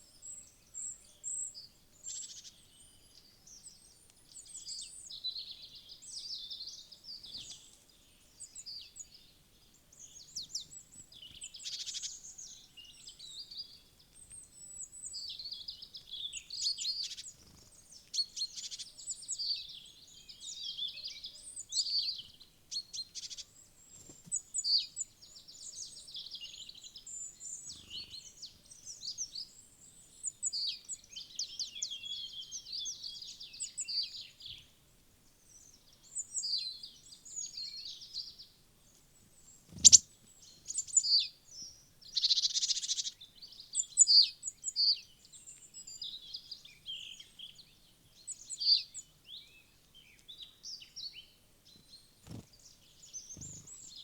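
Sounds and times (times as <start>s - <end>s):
songbirds chirping and calling: 0.0s - 54.0s.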